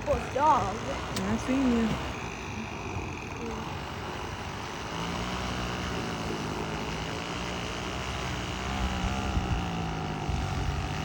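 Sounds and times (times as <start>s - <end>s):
small trimmer engine running: 0.0s - 11.0s.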